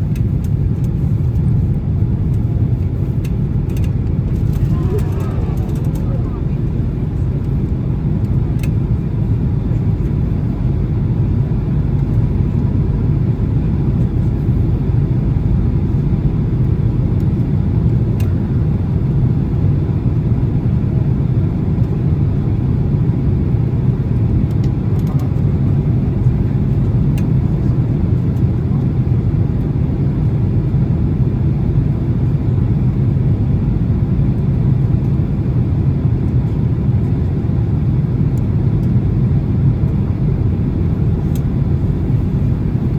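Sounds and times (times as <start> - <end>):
aircraft cabin engine rumble: 0.0 - 42.9.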